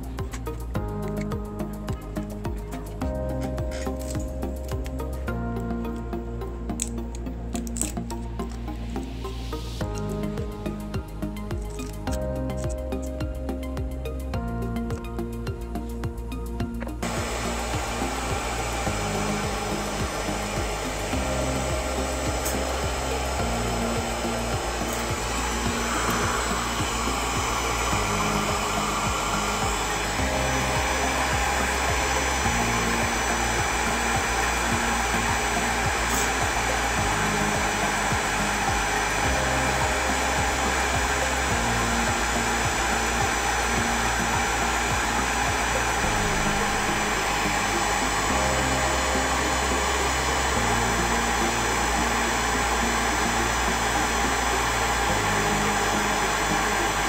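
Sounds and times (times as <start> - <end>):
background music: 0.0 - 57.0
hot air hissing: 8.8 - 13.3, 15.7 - 57.0.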